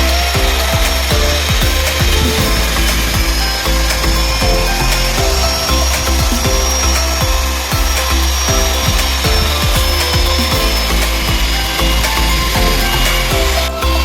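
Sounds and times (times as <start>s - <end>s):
background music with bass: 0.0s - 14.0s.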